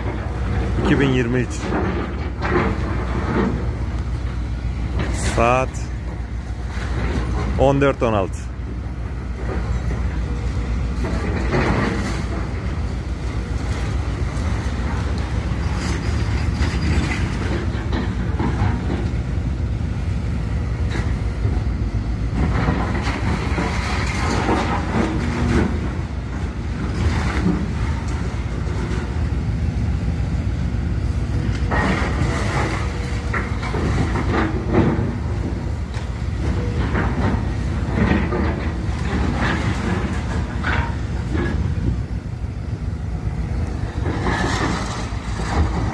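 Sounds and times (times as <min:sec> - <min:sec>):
debris crunching and rumbling: 0:00.0 - 0:45.9
diesel engine running: 0:00.0 - 0:45.9.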